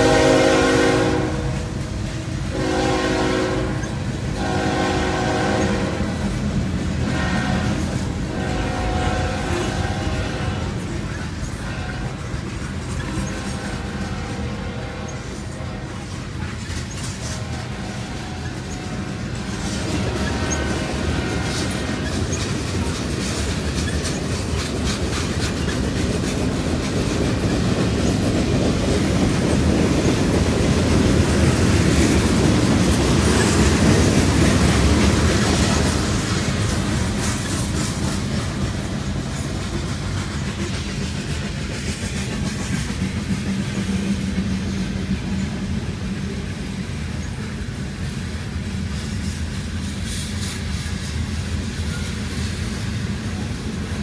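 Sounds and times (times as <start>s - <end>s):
freight train wheels rumbling: 0.0s - 54.0s
clicking over rail joints: 9.4s - 54.0s.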